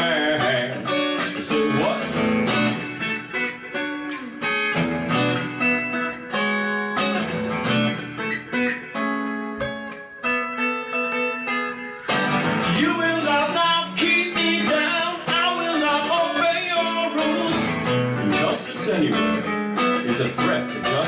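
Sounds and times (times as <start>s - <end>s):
electric guitar picked notes: 0.0s - 21.0s.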